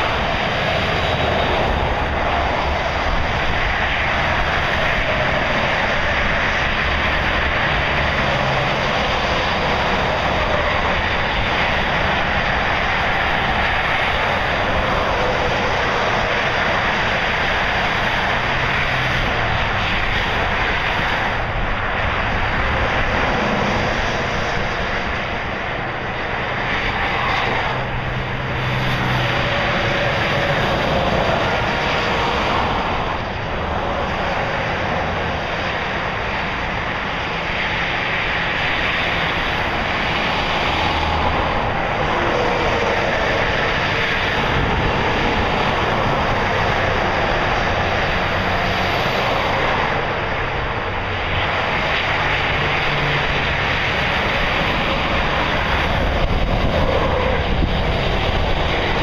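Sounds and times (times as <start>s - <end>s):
roar of motor traffic: 0.0s - 59.0s.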